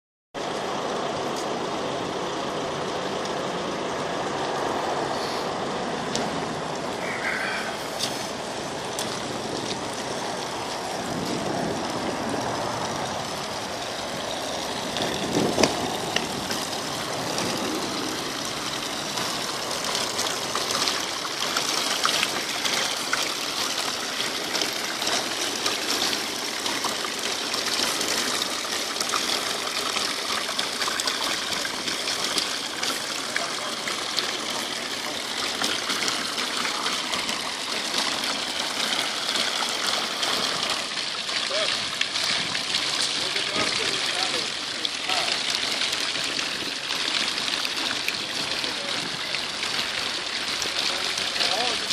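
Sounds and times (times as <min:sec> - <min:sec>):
fountain water splashing: 0:00.4 - 0:51.9.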